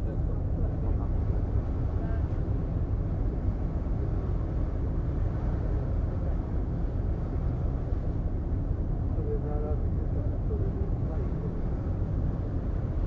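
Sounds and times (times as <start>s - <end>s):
ship engine rumble: 0.0s - 13.0s
water noise: 0.0s - 13.0s
wind buffeting microphone: 0.0s - 13.0s.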